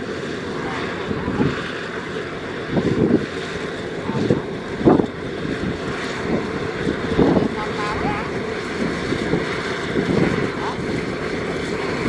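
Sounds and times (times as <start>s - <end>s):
combine harvester hum: 0.0s - 12.0s
wind buffeting microphone: 0.0s - 12.0s.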